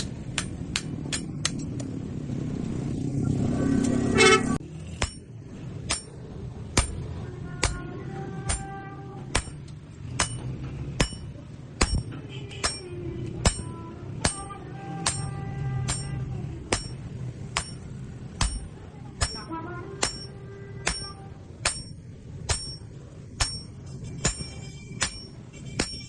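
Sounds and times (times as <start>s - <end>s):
hammer striking steel on anvil: 0.0s - 1.6s, 4.9s - 6.2s, 6.8s - 7.8s, 8.5s - 8.7s, 9.3s - 26.0s.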